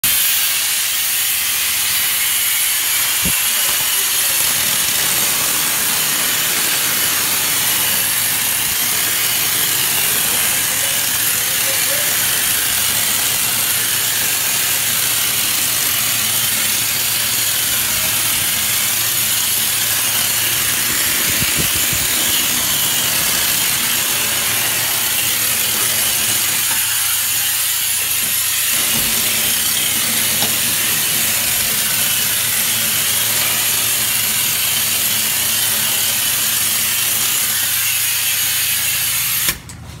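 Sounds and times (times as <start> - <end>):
spray gun hissing: 0.1 - 39.4.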